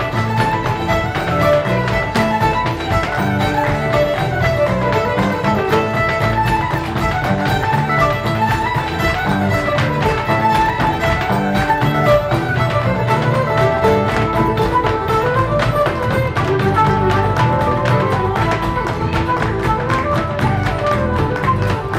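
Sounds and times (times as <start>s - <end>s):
fiddle: 0.0s - 21.9s
mandolin: 0.0s - 21.9s
step dancer's feet tapping: 0.0s - 21.9s.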